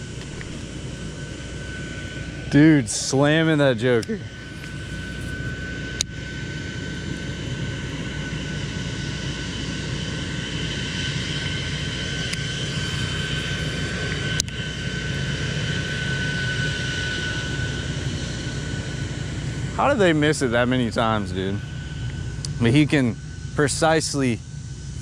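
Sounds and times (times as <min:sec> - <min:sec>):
engine drone: 0:00.0 - 0:25.0
high whine: 0:00.0 - 0:25.0.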